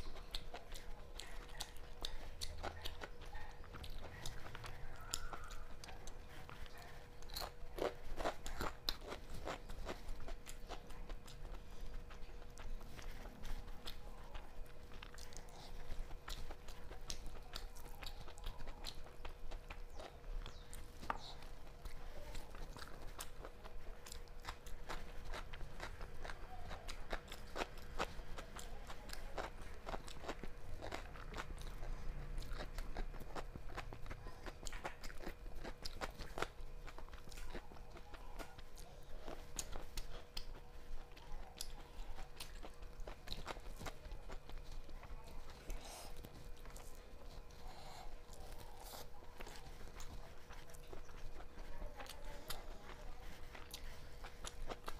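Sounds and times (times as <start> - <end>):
faint steady hum: 0.0 - 54.9
person chewing food: 0.0 - 54.9.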